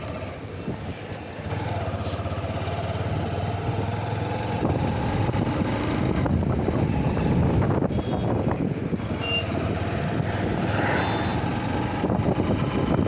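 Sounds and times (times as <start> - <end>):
motorcycle engine running: 1.4 - 13.0.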